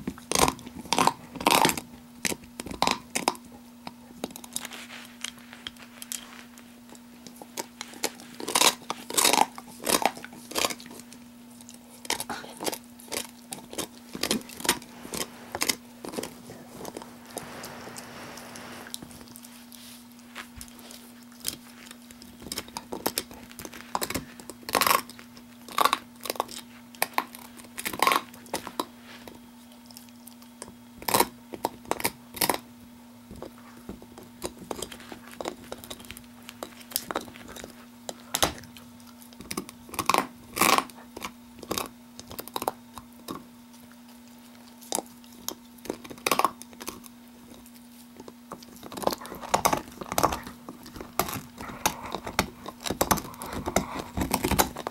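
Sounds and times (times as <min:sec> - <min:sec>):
dog teeth crunching bone: 0:00.0 - 0:06.3, 0:06.9 - 0:17.5, 0:20.5 - 0:32.7, 0:33.3 - 0:54.9
steady low hum: 0:00.0 - 0:54.9.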